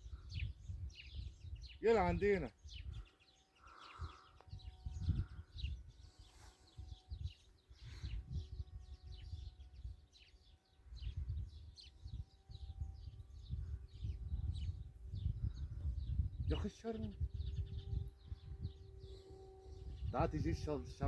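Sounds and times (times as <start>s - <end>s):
small birds chirping: 0.0s - 21.0s
wind rumbling on microphone: 0.0s - 21.0s.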